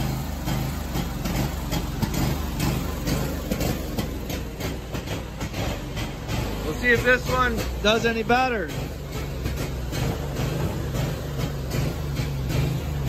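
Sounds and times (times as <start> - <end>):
mower engine idling unevenly: 0.0 - 13.0.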